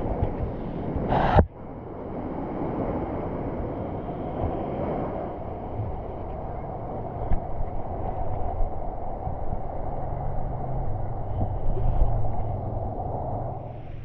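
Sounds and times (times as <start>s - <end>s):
underwater rushing water: 0.0s - 14.0s.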